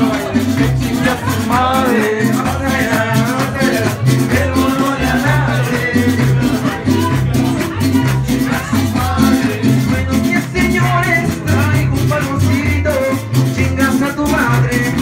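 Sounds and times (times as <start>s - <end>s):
mariachi band playing: 0.0s - 15.0s.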